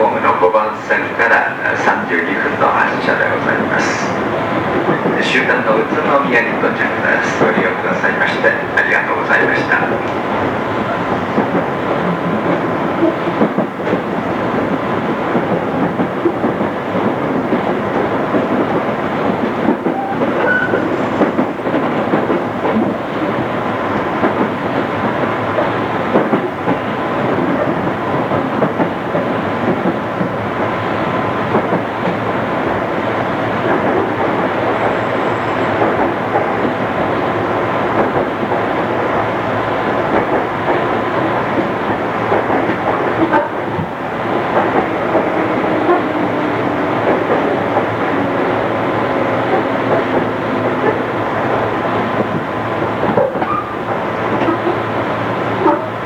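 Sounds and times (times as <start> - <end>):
rail clatter from wheels: 0.0 - 23.3, 31.4 - 54.9
train interior rumble: 0.0 - 56.0.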